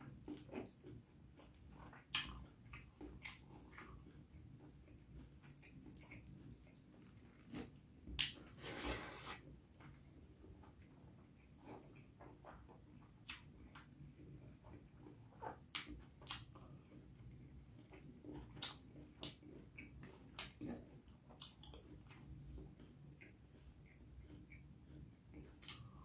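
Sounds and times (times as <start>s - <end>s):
wet chewing and mouth smacks: 0.0s - 8.6s, 9.8s - 26.0s.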